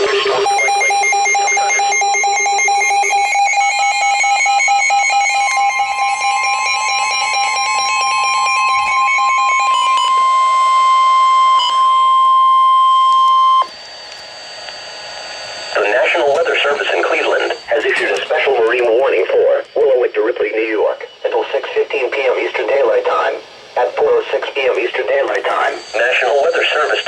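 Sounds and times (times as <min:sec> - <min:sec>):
fast-pulsing alarm beep: 0:00.0 - 0:13.7, 0:15.6 - 0:24.0, 0:24.9 - 0:27.0
steady warning alarm tone: 0:00.0 - 0:27.0.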